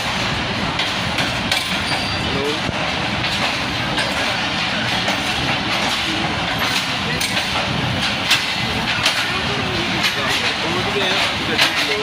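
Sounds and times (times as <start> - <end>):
train wheels rumbling on rails: 0.0 - 12.0
wheels clicking over rail joints: 0.0 - 12.0.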